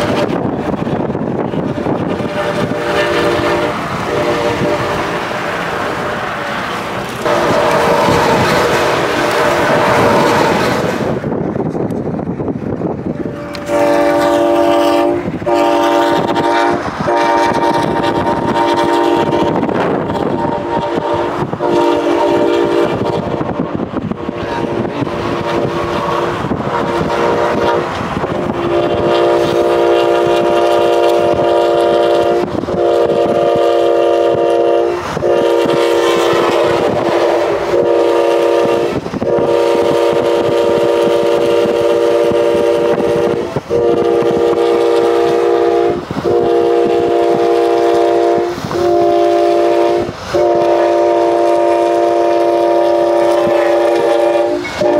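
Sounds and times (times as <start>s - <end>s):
train air horn blasts: 0.0s - 6.0s, 7.2s - 11.2s, 13.1s - 54.9s
moving train rumble: 0.0s - 54.9s.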